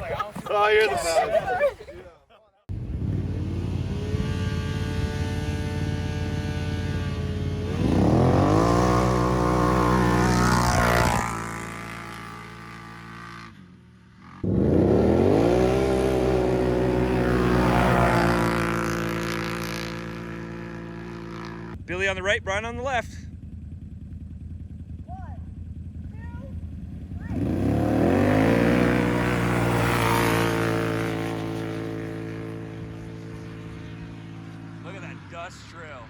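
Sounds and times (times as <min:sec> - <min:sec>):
quad bike engine revving: 0:02.7 - 0:22.2, 0:23.3 - 0:35.3.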